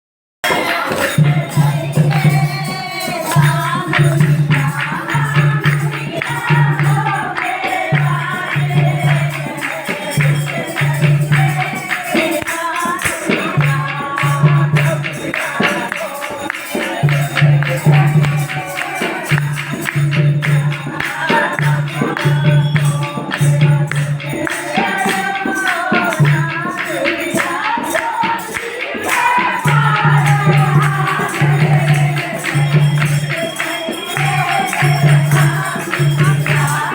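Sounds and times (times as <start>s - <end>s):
fast steady percussion: 0.4s - 36.9s
person singing: 0.4s - 36.9s.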